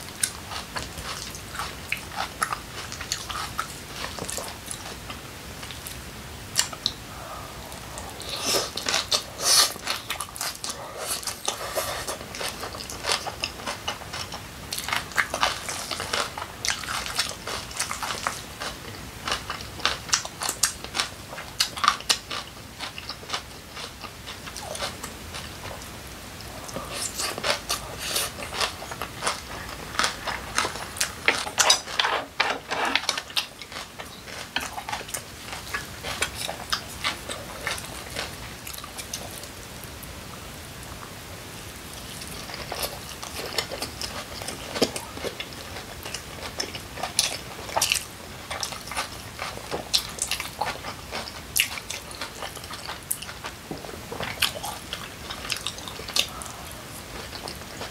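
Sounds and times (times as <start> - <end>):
wet chewing and mouth clicks: 0.1 - 6.0, 6.6 - 39.6, 42.1 - 57.9.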